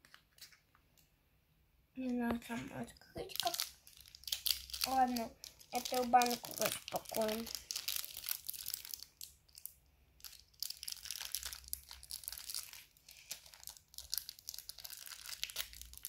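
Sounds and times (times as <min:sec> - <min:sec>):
candy wrapper crinkling: 0:02.0 - 0:16.0.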